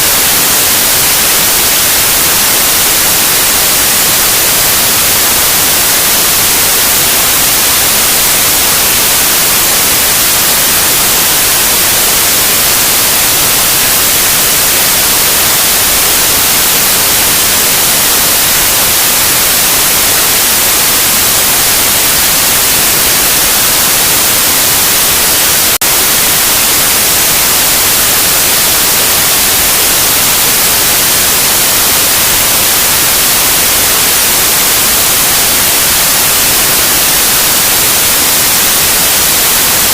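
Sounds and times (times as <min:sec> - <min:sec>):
loud white noise: 0:00.0 - 0:39.9.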